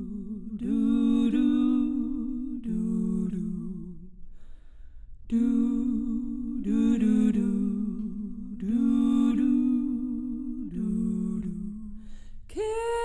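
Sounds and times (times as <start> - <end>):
women singing in harmony: 0.0 - 4.1, 5.3 - 13.0.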